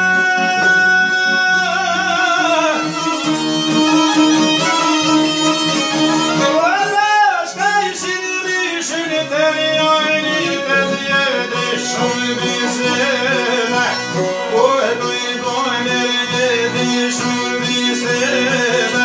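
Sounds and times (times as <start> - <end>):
accordion: 0.0 - 19.0
man singing: 0.0 - 19.0
plucked lutes: 0.0 - 19.0
violin: 0.0 - 19.0.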